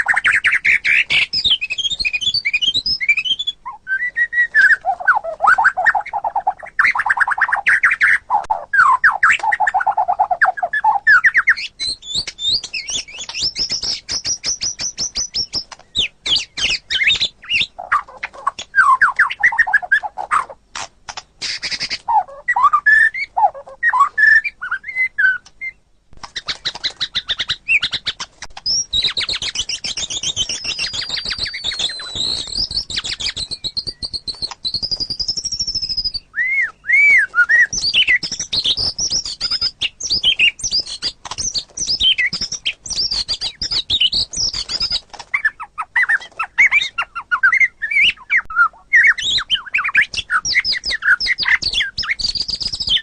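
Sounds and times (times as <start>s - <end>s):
bird singing whistled phrases: 0.0s - 20.4s, 21.4s - 25.8s, 26.4s - 53.0s.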